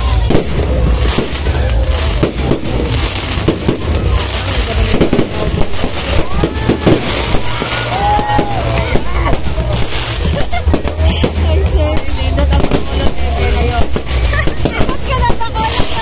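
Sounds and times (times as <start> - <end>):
fireworks pops and bangs: 0.0 - 16.0.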